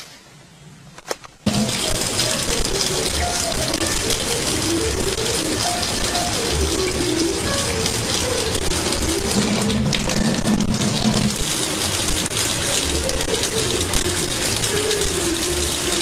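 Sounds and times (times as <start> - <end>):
faucet water splashing into sink: 1.5 - 16.0.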